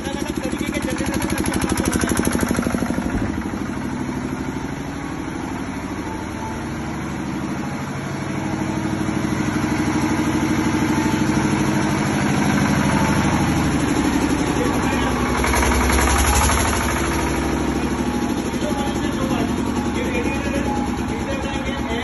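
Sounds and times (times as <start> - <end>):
diesel generator idling: 0.0 - 22.0.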